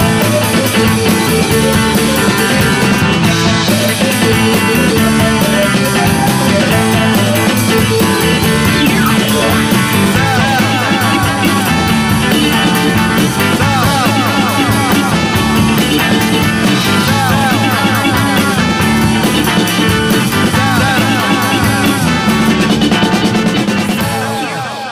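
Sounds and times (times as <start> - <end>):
instrumental rock music: 0.0 - 24.9.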